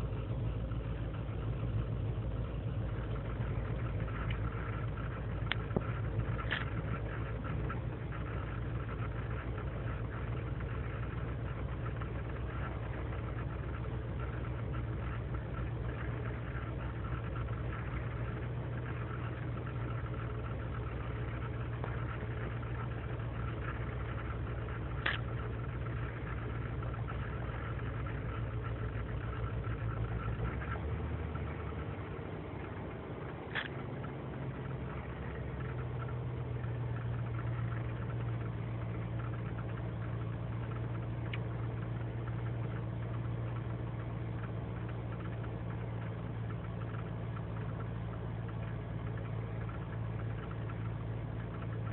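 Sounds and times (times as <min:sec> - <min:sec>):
engine idling roughly: 0:00.0 - 0:51.9.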